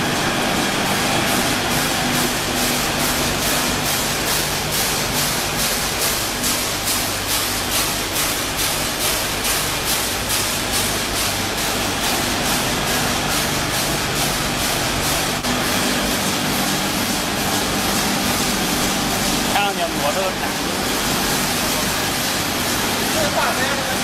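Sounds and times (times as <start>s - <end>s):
packing machine pulsing noise: 0.0s - 24.0s.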